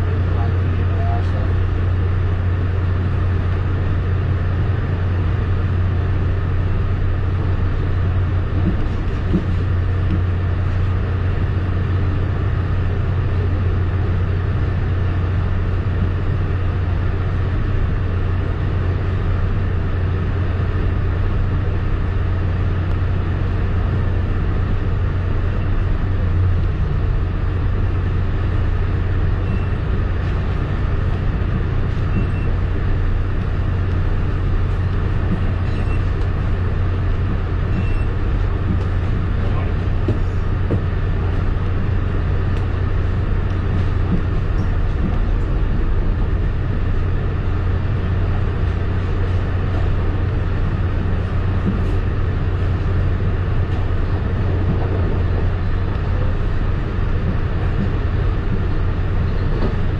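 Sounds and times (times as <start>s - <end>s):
low hum: 0.0s - 59.9s
train drone: 0.0s - 59.9s
train wheels on track: 0.0s - 59.9s.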